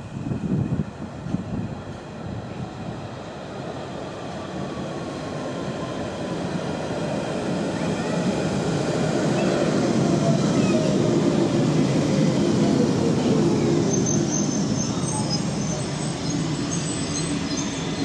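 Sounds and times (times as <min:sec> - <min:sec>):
underground train rumble: 0:00.0 - 0:18.0.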